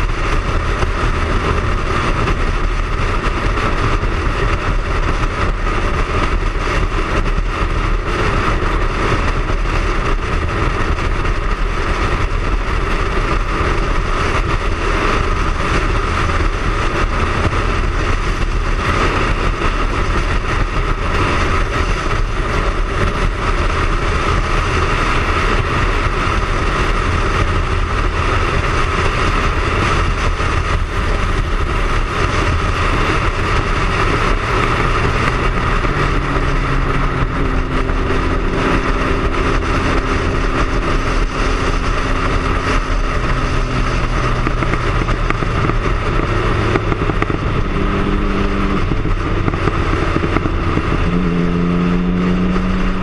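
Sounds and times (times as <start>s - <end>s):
motorcycle engine running: 0.0s - 53.0s
wind rushing on microphone: 0.0s - 53.0s.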